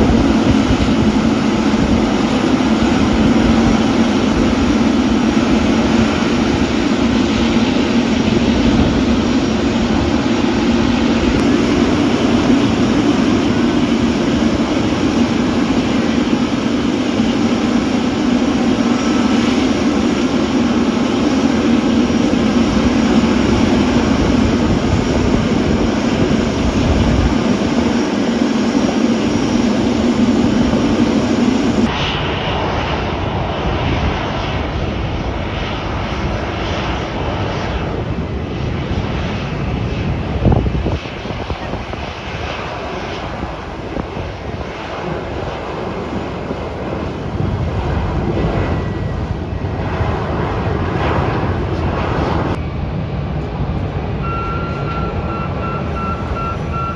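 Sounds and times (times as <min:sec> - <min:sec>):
airliner engines droning: 0:00.0 - 0:56.9.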